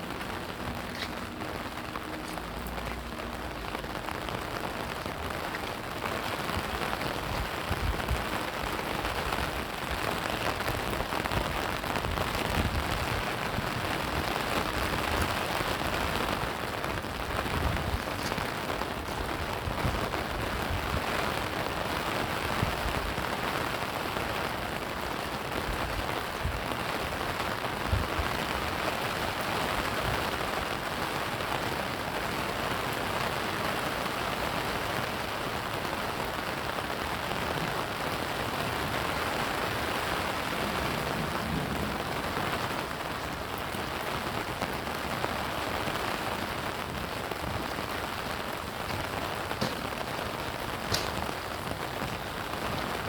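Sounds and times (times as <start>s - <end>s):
steady rain splashing: 0.0s - 53.0s.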